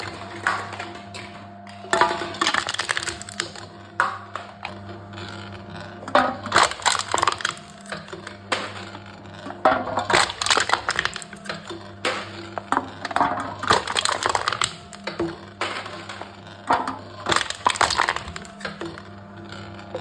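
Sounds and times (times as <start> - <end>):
machine crushing cans: 0.0 - 20.0.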